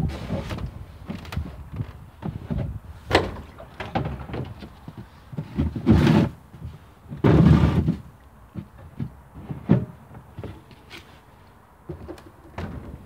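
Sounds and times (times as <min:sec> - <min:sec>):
plastic water butt scraping: 0:00.0 - 0:13.0.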